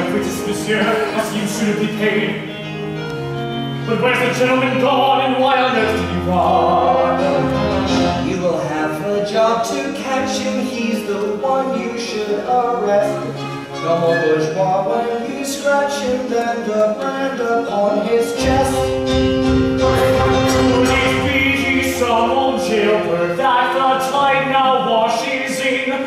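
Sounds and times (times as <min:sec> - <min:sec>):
orchestral accompaniment: 0:00.0 - 0:26.0.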